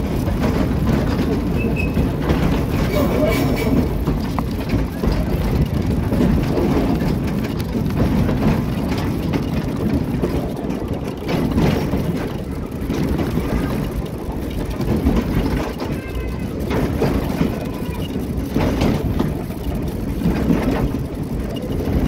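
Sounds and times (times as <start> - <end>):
wheels rumbling on rails: 0.0 - 22.0.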